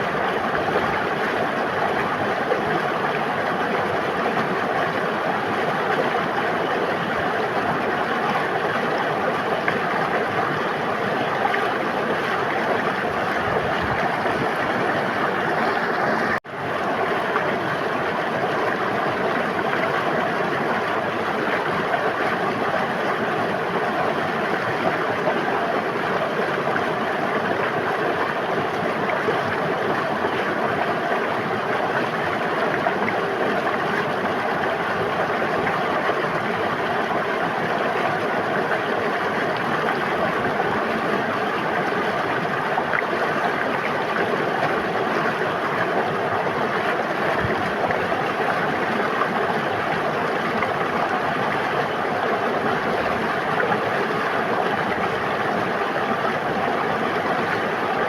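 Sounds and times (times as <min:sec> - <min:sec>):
river water rushing and babbling: 0:00.0 - 0:58.0.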